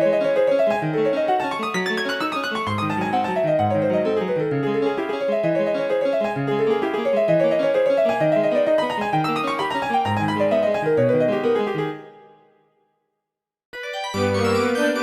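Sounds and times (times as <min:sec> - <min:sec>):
polyphonic ringtone keyboard tune: 0:00.0 - 0:12.1, 0:13.8 - 0:15.0.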